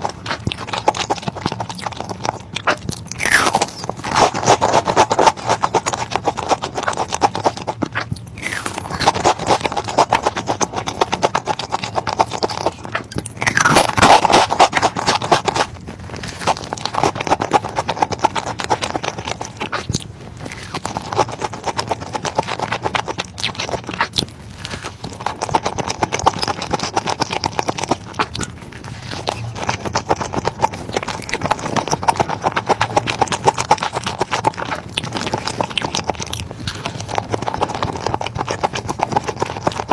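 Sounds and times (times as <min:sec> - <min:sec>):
person chewing food: 0:00.0 - 0:39.9
rapid mouth clicks: 0:00.0 - 0:39.9.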